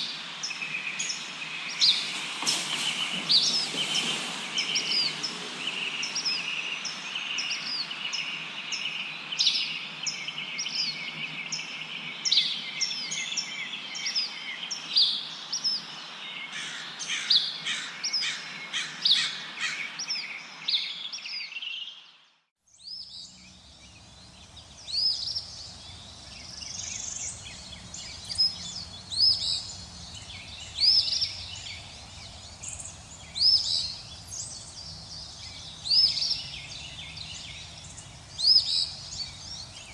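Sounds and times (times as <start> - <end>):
wind rustling leaves: 0.0 - 22.2, 22.8 - 39.9
small birds chirping: 0.0 - 39.9.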